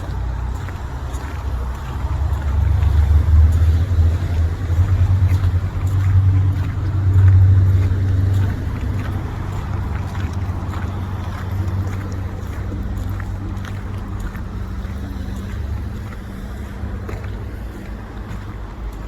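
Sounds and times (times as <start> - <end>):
car traffic rumble: 0.0 - 19.0
footsteps crunching in snow: 0.0 - 19.0
vehicle passing: 0.0 - 19.0.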